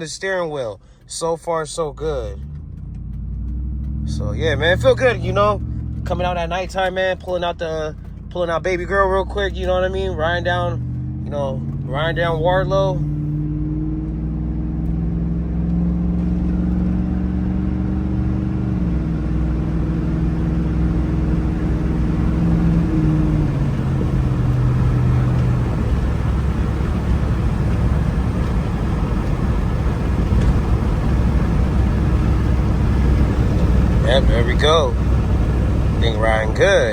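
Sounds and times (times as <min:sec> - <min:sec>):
pickup truck engine accelerating: 0:00.0 - 0:36.9
tyre and road rumble: 0:00.0 - 0:36.9.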